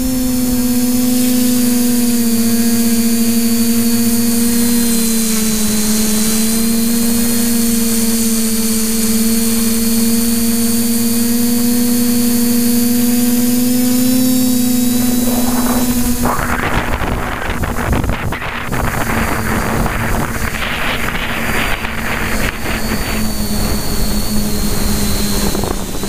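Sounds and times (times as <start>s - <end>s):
quadcopter propellers buzzing: 0.0s - 26.0s.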